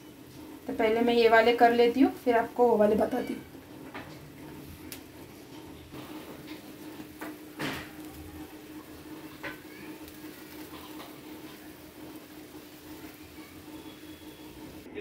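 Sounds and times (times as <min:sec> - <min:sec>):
food crackling over gas flame: 0:00.0 - 0:15.0.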